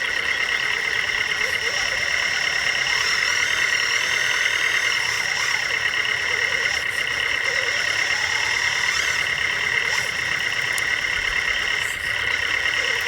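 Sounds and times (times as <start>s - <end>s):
high-pitched electric motor whine: 0.0s - 13.0s.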